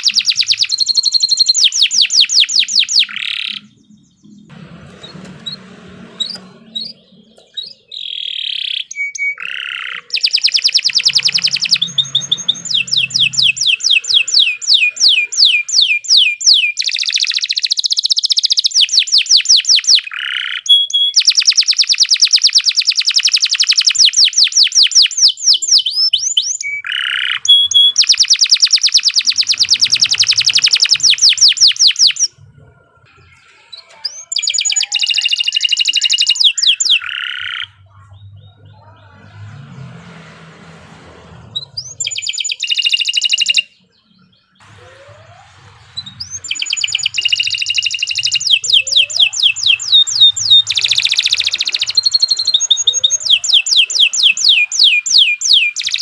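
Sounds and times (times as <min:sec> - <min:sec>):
canary singing trills: 0:00.0 - 0:40.2, 0:41.3 - 0:56.0.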